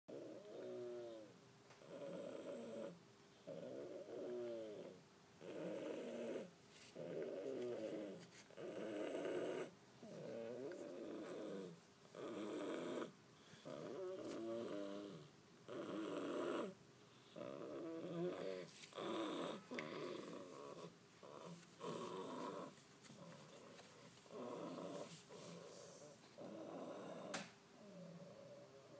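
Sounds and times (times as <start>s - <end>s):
cat snoring: 0.1s - 28.9s.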